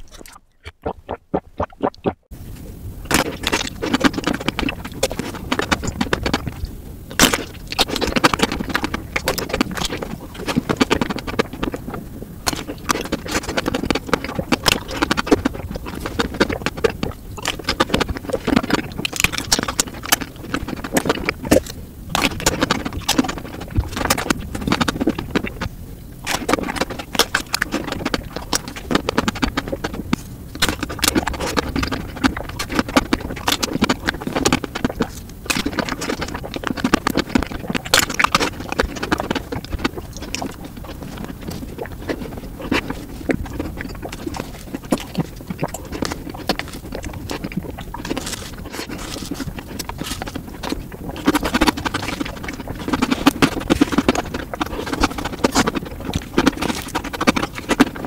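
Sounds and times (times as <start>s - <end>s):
biting and chewing crunchy food: 0.0s - 58.0s.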